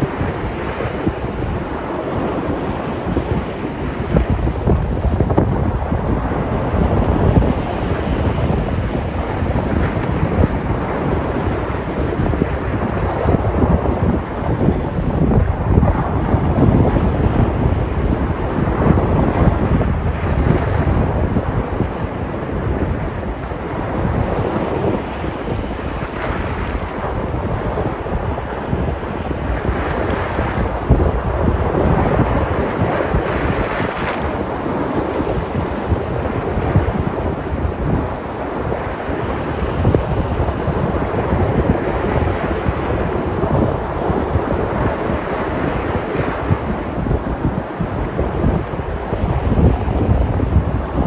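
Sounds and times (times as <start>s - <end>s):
sea surf breaking on shore: 0.0s - 51.0s
wind buffeting microphone: 0.0s - 51.0s.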